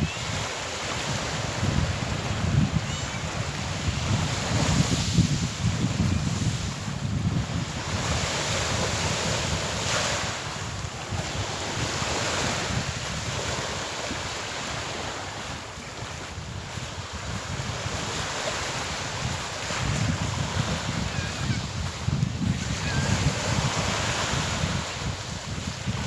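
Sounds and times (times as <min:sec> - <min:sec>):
low wind rumble on microphone: 0:00.0 - 0:26.0
sea waves washing ashore: 0:00.0 - 0:26.0.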